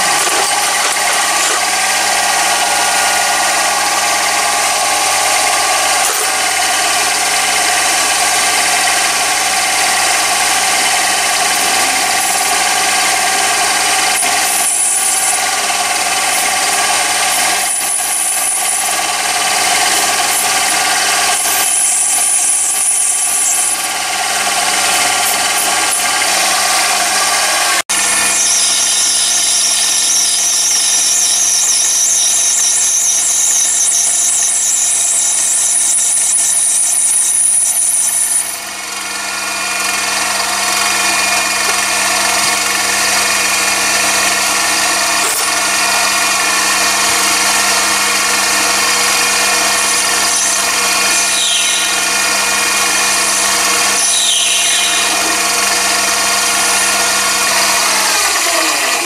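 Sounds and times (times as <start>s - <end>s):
high wavering cutting whine: 0.0s - 59.0s
lathe motor hum: 0.0s - 59.0s.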